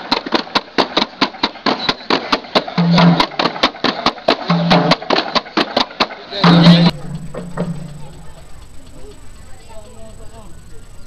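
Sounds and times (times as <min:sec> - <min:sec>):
drums beaten in fast rhythm: 0:00.0 - 0:11.0.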